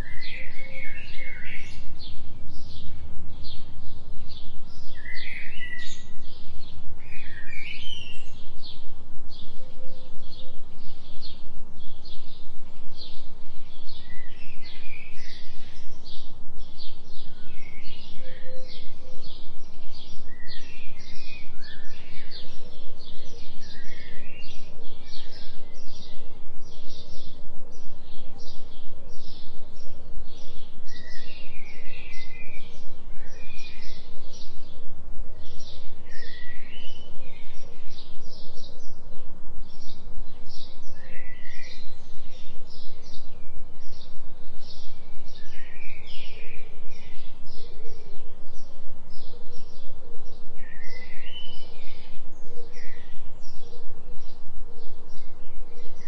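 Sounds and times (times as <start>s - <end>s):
birds chirping: 0.0s - 56.0s
pulsing low binaural tone: 0.0s - 56.0s.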